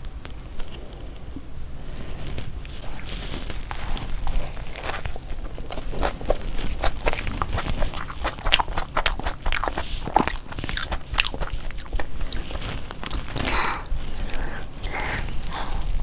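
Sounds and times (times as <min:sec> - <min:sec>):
person chewing with mouth clicks: 0:02.7 - 0:16.0.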